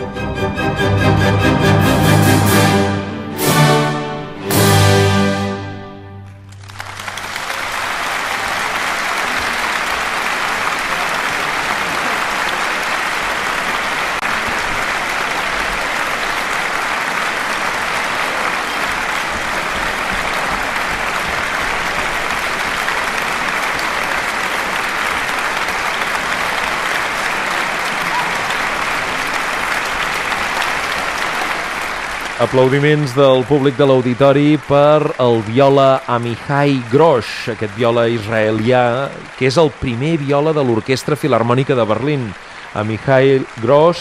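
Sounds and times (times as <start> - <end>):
audience applauding: 2.1 - 44.0.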